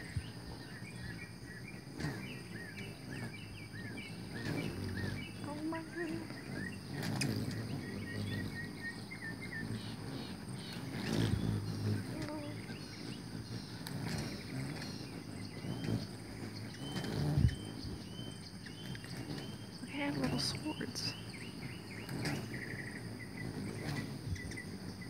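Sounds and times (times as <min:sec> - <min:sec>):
high chipping bird calls: 0:00.0 - 0:25.0
hummingbird wings humming: 0:00.0 - 0:25.0.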